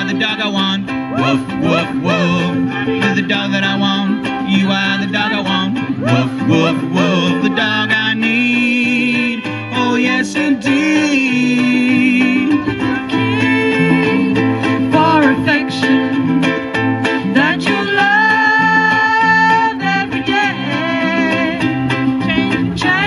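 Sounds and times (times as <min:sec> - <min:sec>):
stepping bass line: 0:00.0 - 0:18.6
person singing: 0:00.0 - 0:23.0
strummed ukuleles: 0:00.0 - 0:23.0.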